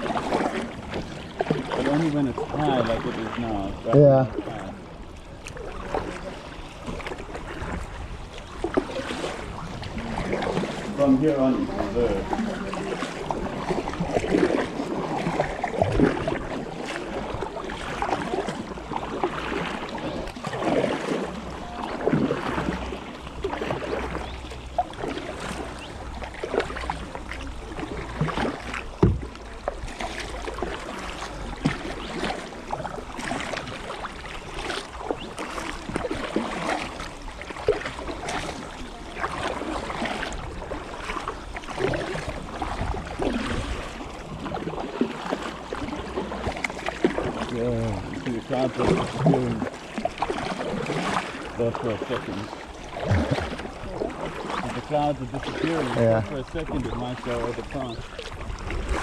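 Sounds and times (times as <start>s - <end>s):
kayak paddles splashing: 0.0s - 59.0s
water trickling off blades: 0.0s - 59.0s.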